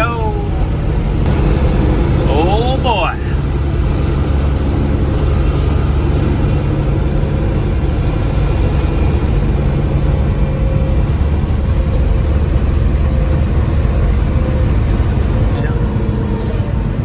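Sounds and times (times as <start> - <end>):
diesel truck engine hum: 0.0 - 17.0
road noise: 0.0 - 17.0.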